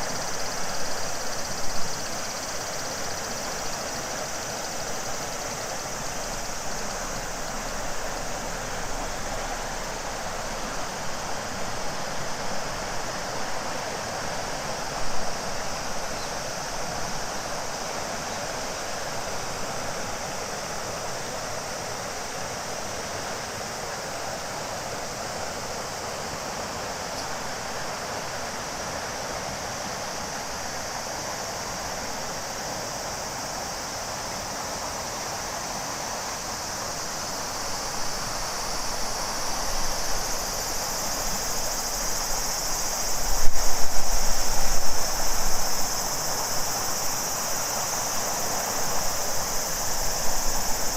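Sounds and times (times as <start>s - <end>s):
cicada chorus: 0.0s - 50.9s
river rushing: 0.0s - 50.9s.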